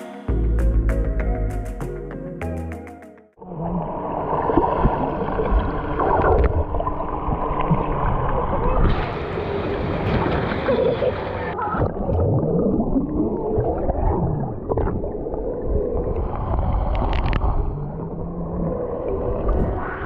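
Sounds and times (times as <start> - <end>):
underwater gurgling and bubbling: 3.4 - 20.0.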